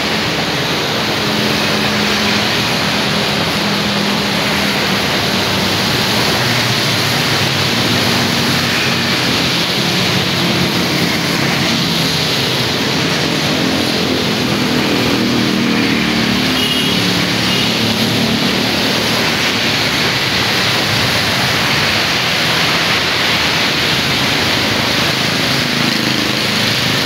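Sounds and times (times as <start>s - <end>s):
rain hiss: 0.0s - 27.0s
scooter engine hum: 0.0s - 27.0s
tyres hissing on wet road: 0.0s - 27.0s.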